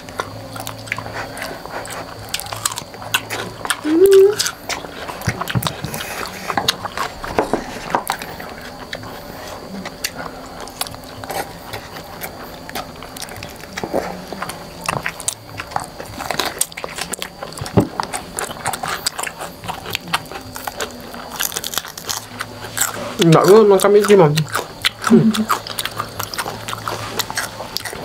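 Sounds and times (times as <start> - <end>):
people chewing crispy food: 0.0 - 28.0.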